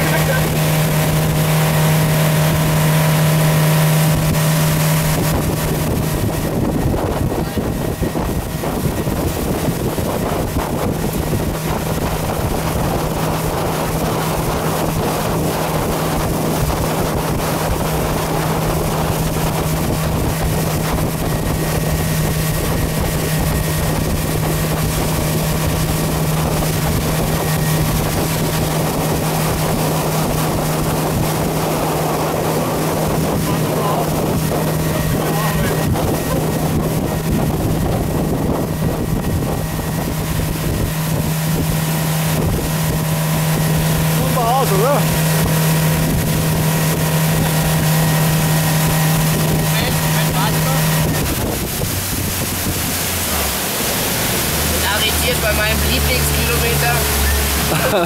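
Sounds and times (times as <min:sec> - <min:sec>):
boat wake rushing: 0:00.0 - 0:58.0
outboard motor drone: 0:00.0 - 0:58.0
wind: 0:00.0 - 0:58.0.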